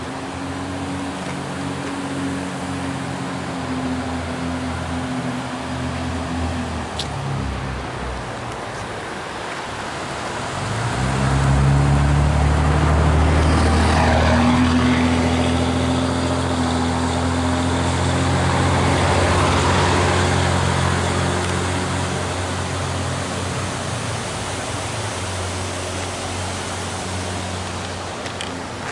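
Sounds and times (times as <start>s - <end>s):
car engine hum: 0.0s - 28.9s
road and wind noise: 0.0s - 28.9s.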